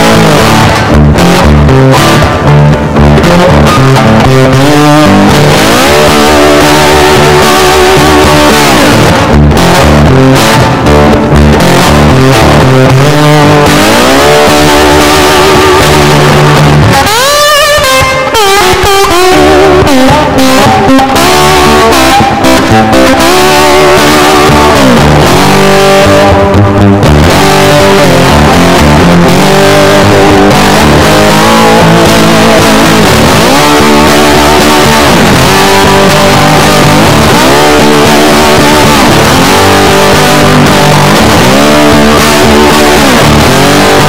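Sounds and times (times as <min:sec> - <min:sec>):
guitar with bending notes: 0:00.0 - 0:44.0.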